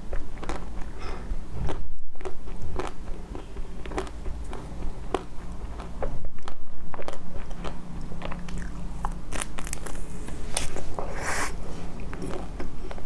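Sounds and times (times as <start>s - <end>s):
chewing chocolate-coated ice cream: 0.0s - 1.0s, 1.6s - 10.8s, 11.9s - 13.0s.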